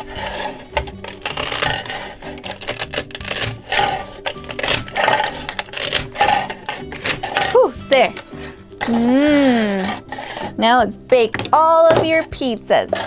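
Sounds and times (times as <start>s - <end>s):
toy cutter scraping play dough: 0.0s - 10.8s.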